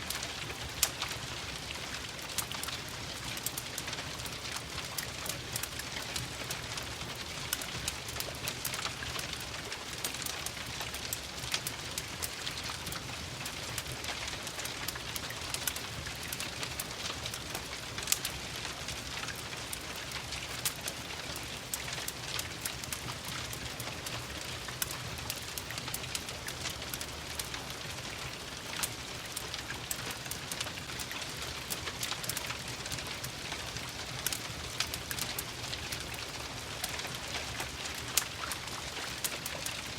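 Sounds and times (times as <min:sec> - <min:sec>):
rain pattering: 0:00.0 - 0:39.9
wood fire crackling: 0:00.0 - 0:39.9.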